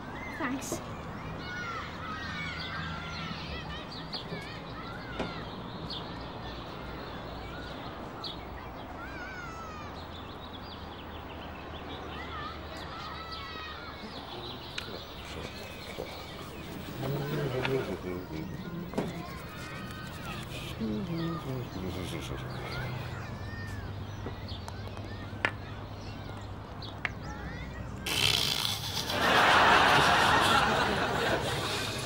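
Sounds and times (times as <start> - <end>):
birds chirping and twittering: 0.0 - 32.0.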